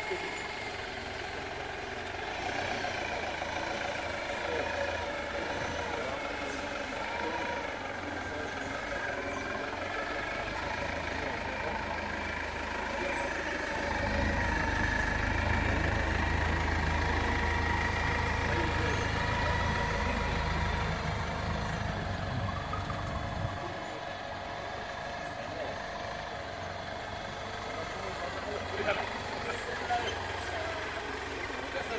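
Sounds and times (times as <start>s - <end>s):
forklift engine droning: 0.0s - 31.9s.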